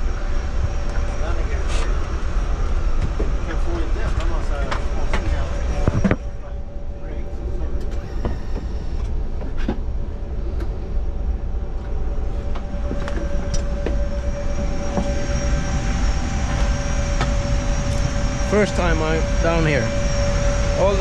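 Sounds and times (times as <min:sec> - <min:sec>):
air-conditioning whirring rush: 0:00.0 - 0:21.0
constant whine: 0:00.0 - 0:21.0.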